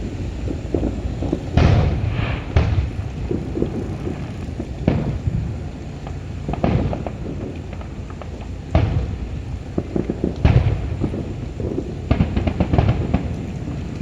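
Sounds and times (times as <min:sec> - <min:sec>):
fireworks booming: 0:00.0 - 0:14.0
fireworks crackle: 0:00.0 - 0:14.0.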